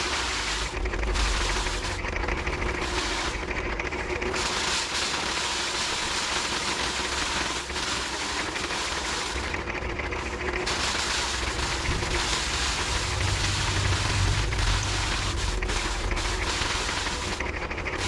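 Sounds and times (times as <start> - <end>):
thresher drum rattling: 0.0 - 18.0.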